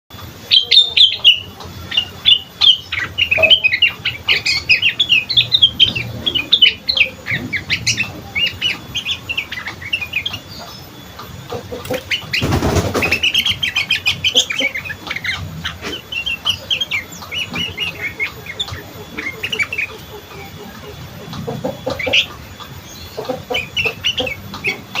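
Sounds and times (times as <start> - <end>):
bird chirping rapidly: 0.4 - 25.0.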